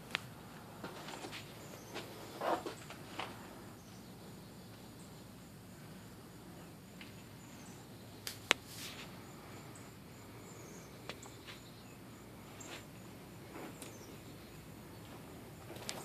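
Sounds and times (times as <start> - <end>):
faint high chirping: 1.2 - 8.4, 9.1 - 16.0.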